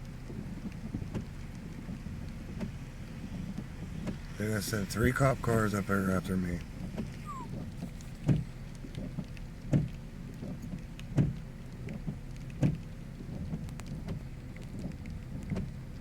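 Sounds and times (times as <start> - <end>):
car rumbling in rain: 0.0 - 16.0.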